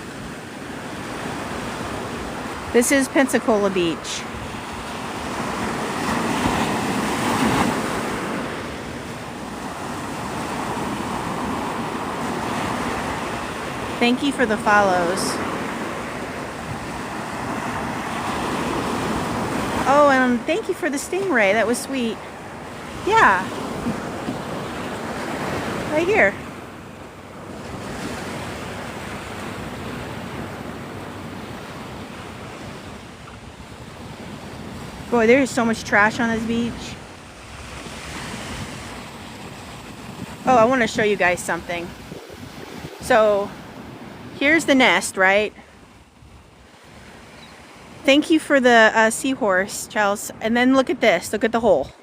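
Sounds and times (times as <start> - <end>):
wind buffeting microphone: 0.0 - 48.6
surf washing onto sandy beach: 0.0 - 49.4.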